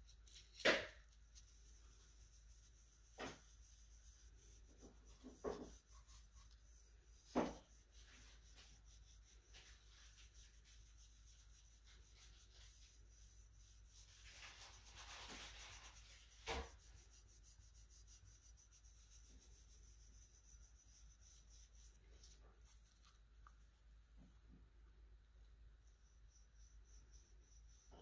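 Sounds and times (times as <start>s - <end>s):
cotton ball rubbing on metal: 0.0s - 23.2s.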